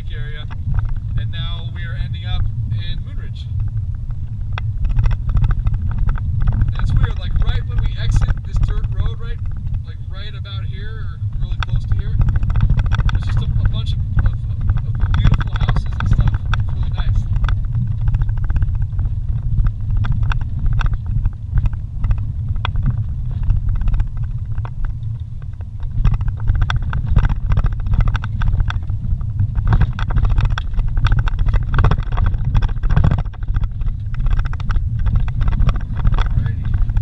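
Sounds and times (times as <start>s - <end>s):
knocks and rattles: 0.0s - 2.9s, 3.5s - 37.0s
engine and tyre rumble: 0.0s - 37.0s.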